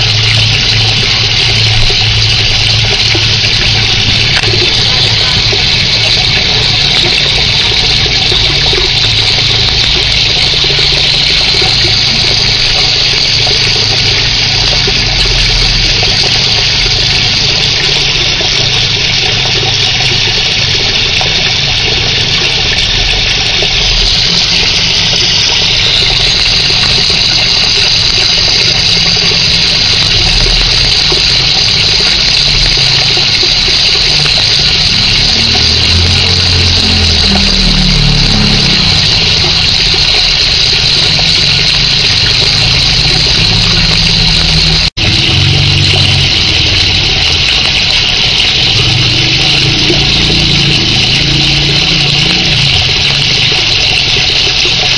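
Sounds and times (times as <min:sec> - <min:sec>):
pump motor hum: 0:00.0 - 0:54.9
water rushing and bubbling: 0:00.0 - 0:54.9.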